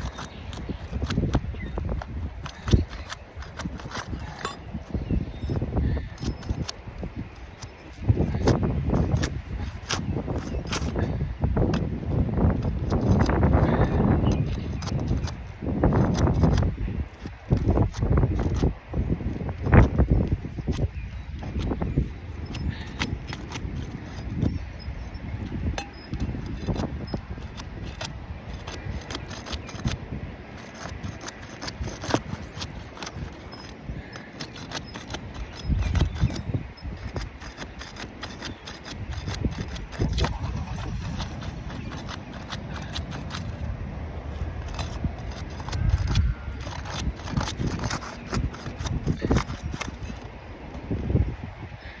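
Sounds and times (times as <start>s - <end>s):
shingle scraping and clicking: 0.0s - 52.0s.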